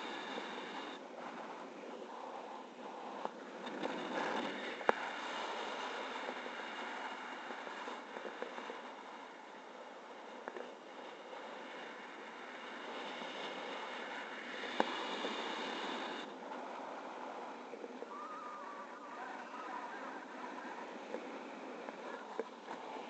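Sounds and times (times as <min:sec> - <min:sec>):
wind hiss on camera: 0:00.0 - 0:23.0.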